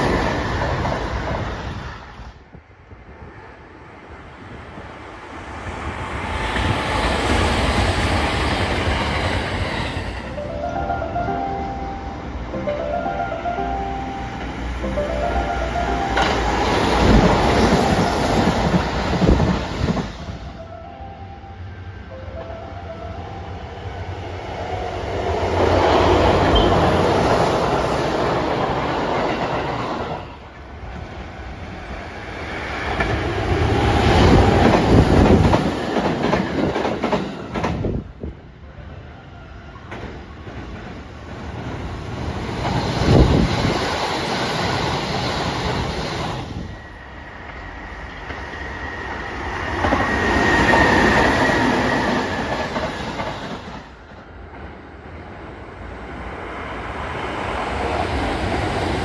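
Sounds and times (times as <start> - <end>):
trains passing at speed: 0.0 - 59.0.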